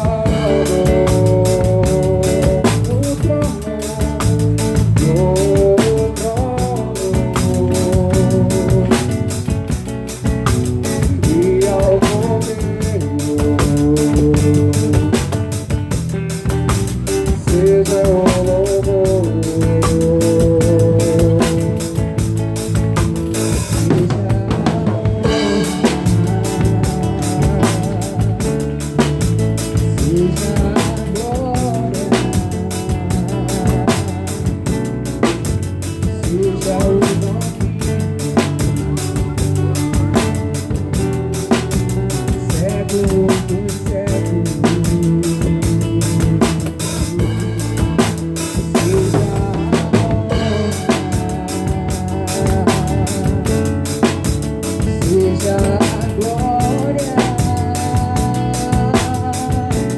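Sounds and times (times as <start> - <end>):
drum kit: 0.0 - 59.9
live band playing: 0.0 - 59.9.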